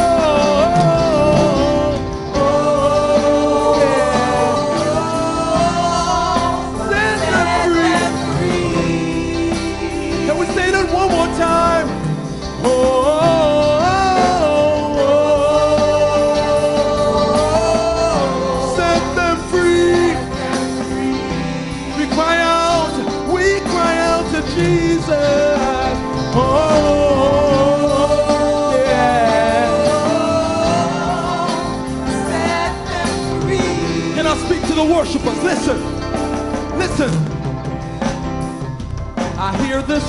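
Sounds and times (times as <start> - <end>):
gospel band playing: 0.0 - 40.0.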